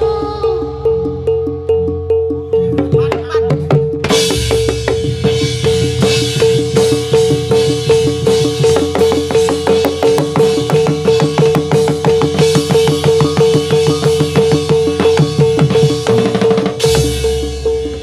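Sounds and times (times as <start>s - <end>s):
fast driving drum beat: 0.0s - 18.0s.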